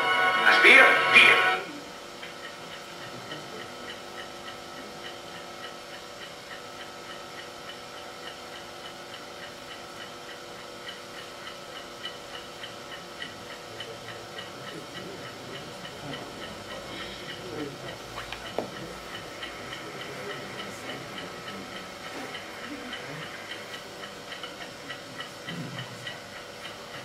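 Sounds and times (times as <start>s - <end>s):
old film soundtrack hum: 0.0s - 27.0s
stopwatch ticking: 2.2s - 27.0s.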